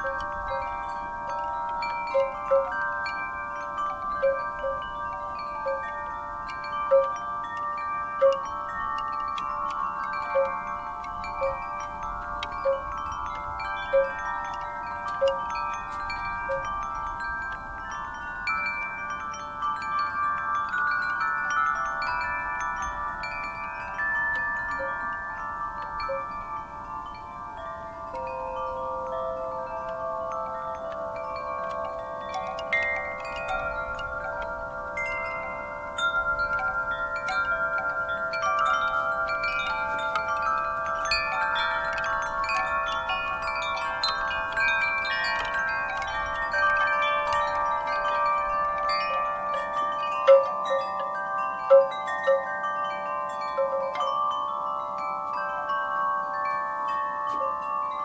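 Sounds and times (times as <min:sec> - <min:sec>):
wind chimes ringing: 0:00.0 - 0:58.0.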